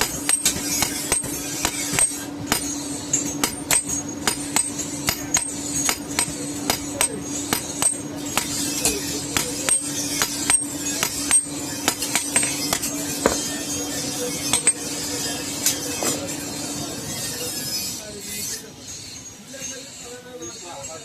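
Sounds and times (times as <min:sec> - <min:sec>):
hammer striking hot iron on anvil: 0:00.0 - 0:18.0
steady hum: 0:00.0 - 0:21.0.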